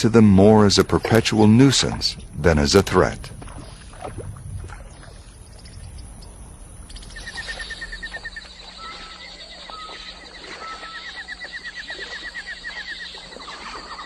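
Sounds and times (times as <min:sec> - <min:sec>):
steady high hum: 0:00.0 - 0:14.0.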